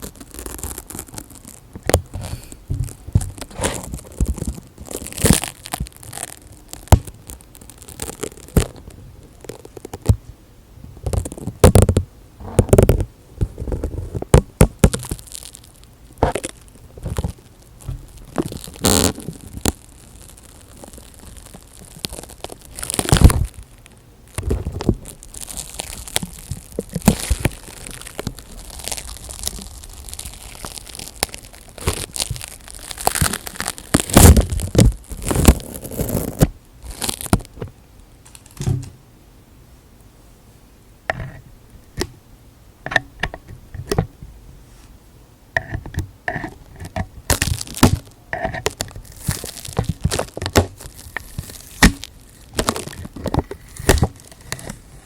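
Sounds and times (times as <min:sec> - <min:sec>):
crinkling and tearing: 0:00.0 - 0:10.3, 0:11.0 - 0:39.0, 0:45.6 - 0:55.0.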